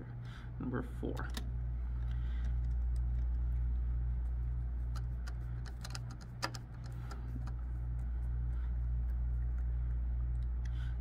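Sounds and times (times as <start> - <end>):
pulsing machine hum: 0.0 - 11.0.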